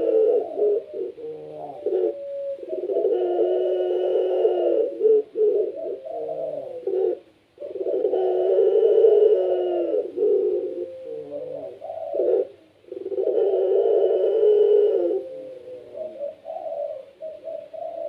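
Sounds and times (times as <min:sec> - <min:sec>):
turtle doves cooing: 0:00.0 - 0:18.0.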